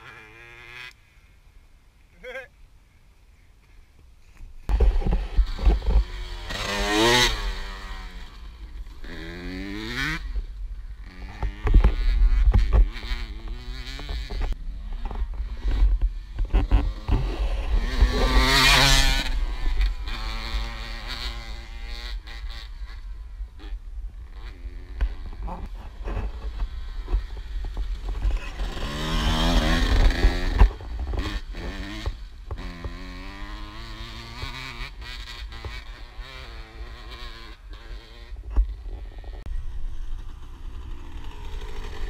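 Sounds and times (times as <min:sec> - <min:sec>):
dirt bike engine revving: 0:00.0 - 0:01.0, 0:04.7 - 0:42.0.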